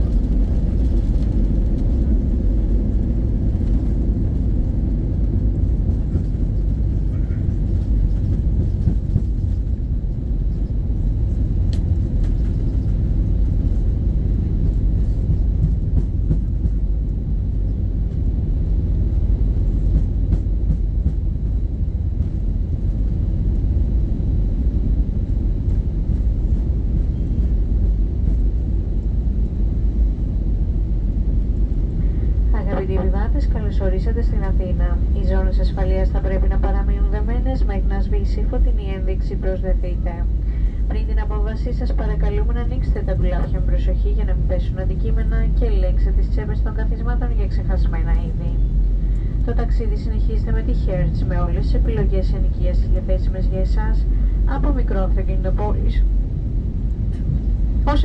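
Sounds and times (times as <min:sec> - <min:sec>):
airplane cabin rumble: 0:00.0 - 0:58.0
jet engines idling: 0:00.0 - 0:58.0.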